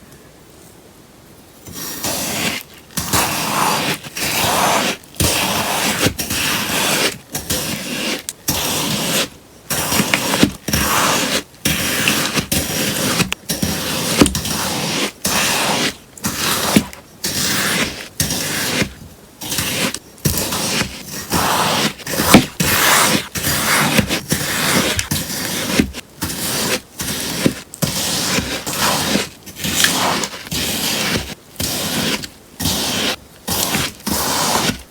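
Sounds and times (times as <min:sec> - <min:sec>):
sponge being cut crunching: 0:01.7 - 0:34.9.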